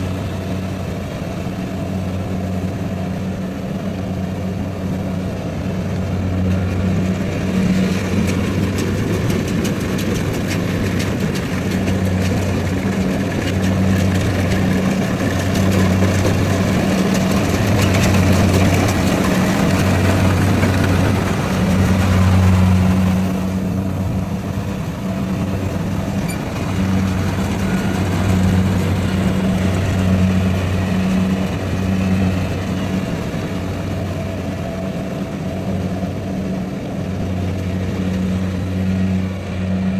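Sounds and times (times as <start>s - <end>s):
combine harvester engine hum: 0.0s - 39.9s
rough machinery noise: 0.0s - 39.9s.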